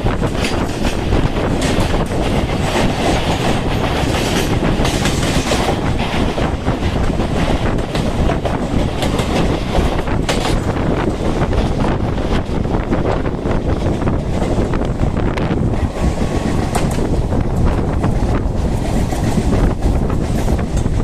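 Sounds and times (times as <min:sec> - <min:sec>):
train wheels rumbling on rails: 0:00.0 - 0:21.0
wheels clicking over rail joints: 0:00.0 - 0:21.0.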